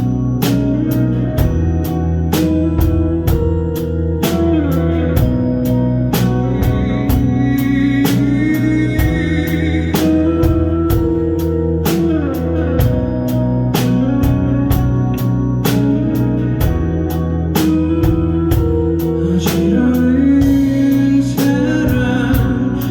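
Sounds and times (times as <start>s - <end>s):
drum kit beat: 0.0s - 22.9s
live band playing: 0.0s - 22.9s
sliding electric guitar lines: 0.0s - 22.9s.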